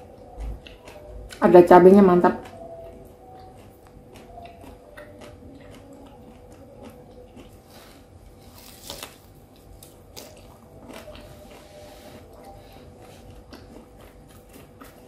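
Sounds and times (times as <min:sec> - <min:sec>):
chewing and biting food: 0:00.0 - 0:15.0.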